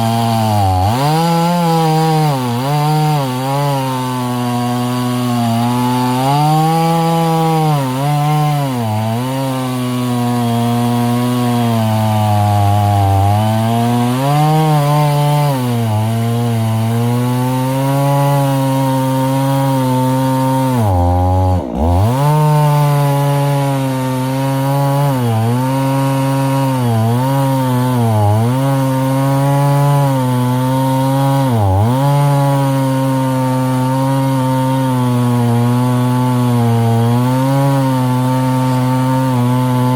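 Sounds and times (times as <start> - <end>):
chainsaw running at high revs: 0.0 - 39.9.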